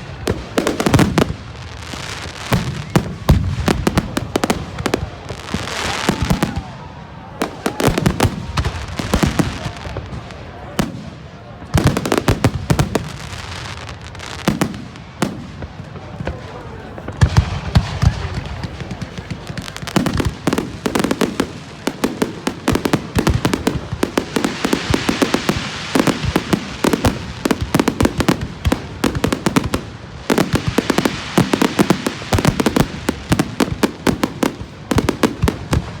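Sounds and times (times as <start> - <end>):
firecrackers and fireworks banging: 0.0 - 36.0.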